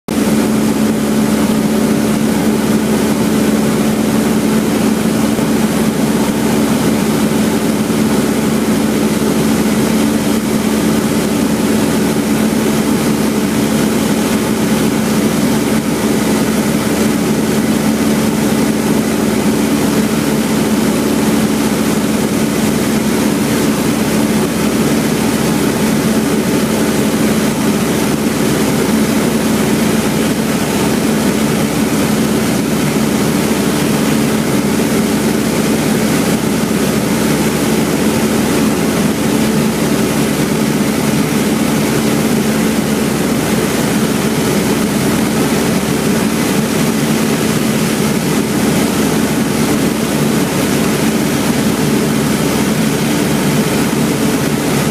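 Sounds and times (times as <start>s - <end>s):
aircraft engine drone in cabin: 0.1s - 54.9s.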